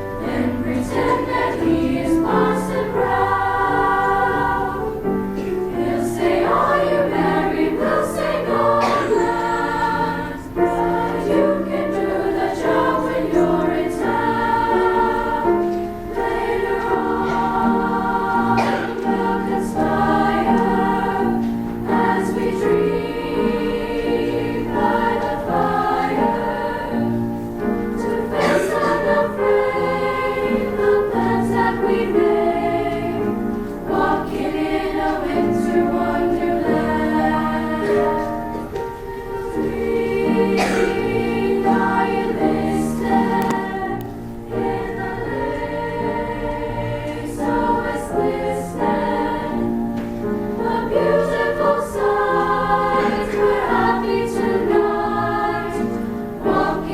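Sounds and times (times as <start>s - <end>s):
women's choir singing: 0.0s - 56.9s.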